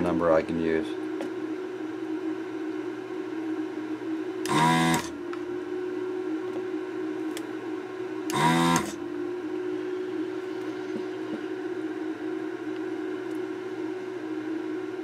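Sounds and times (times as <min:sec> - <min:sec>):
steady hum: 0:00.0 - 0:15.0
vacuum pump buzzing: 0:00.0 - 0:15.0.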